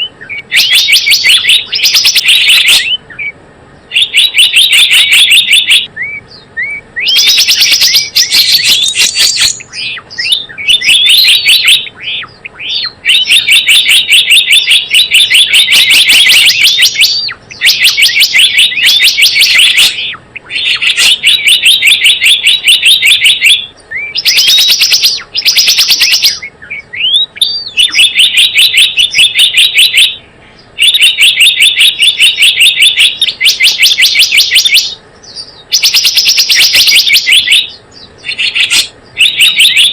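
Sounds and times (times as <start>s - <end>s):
high sharp bird chirps: 0.0s - 39.9s
rising bird call notes: 0.0s - 39.9s.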